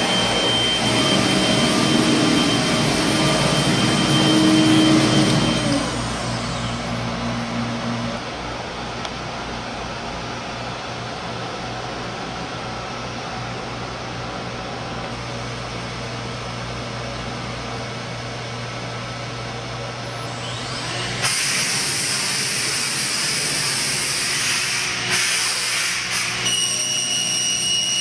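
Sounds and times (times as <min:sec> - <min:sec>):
cnc router humming and hissing: 0:00.0 - 0:28.0.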